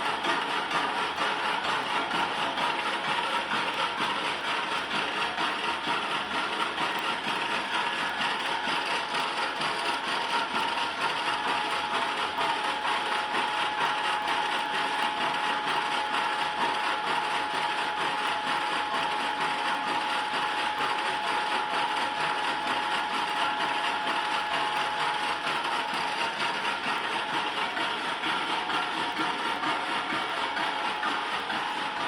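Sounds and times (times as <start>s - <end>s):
metal lathe whining: 0.0s - 32.0s.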